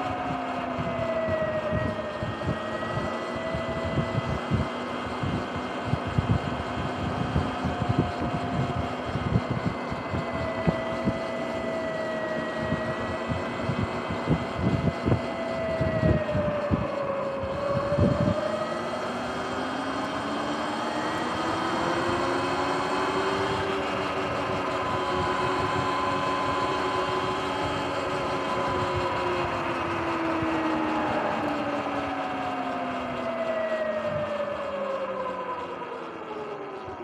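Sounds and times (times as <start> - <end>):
electric dirt bike motor whining: 0.0 - 37.0
wind buffeting microphone: 0.0 - 37.0.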